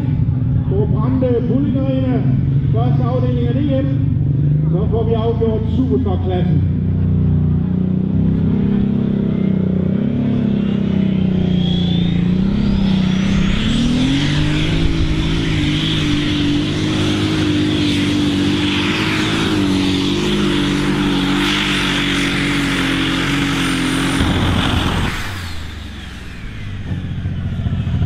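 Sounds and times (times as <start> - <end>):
diesel tractor engine at full power: 0.0 - 28.0.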